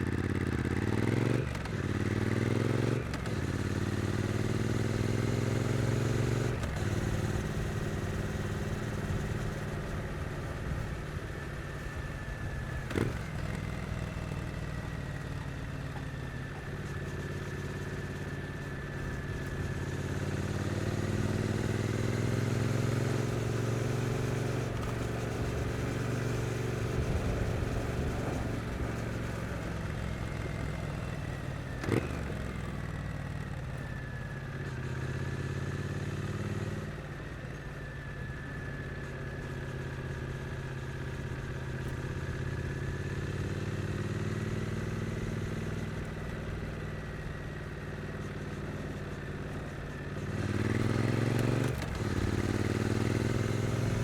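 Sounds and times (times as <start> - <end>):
motorcycle engine revving: 0.0 - 37.4, 38.1 - 54.0.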